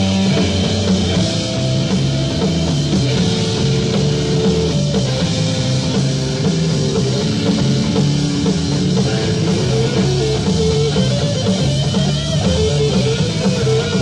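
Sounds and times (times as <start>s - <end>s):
bass guitar: 0.0s - 14.0s
drum kit: 0.0s - 14.0s
electric guitar playing: 0.0s - 14.0s.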